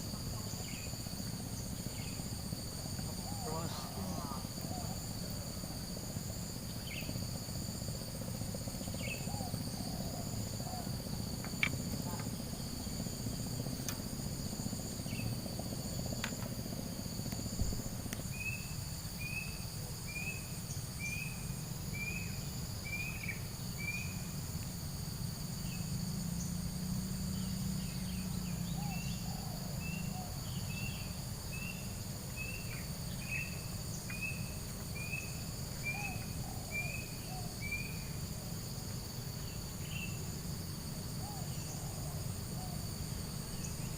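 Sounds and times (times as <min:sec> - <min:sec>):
crickets trilling: 0:00.0 - 0:43.9
low steady rumble: 0:00.0 - 0:43.9.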